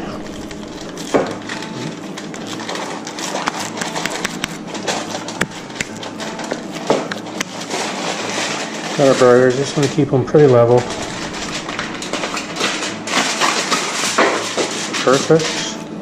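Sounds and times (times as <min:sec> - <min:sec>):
aluminium foil crinkling: 0:00.0 - 0:15.8.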